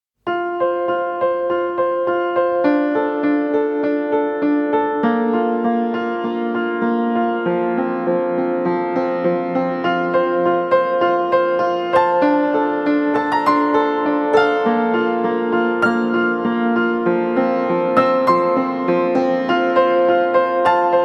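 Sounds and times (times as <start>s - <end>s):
gentle piano music: 0.3s - 21.0s.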